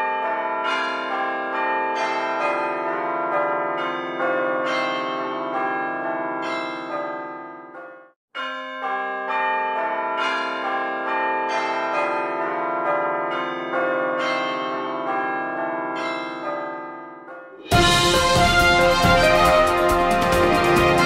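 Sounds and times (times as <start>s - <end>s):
slow bell-like chiming music: 0.0s - 21.0s.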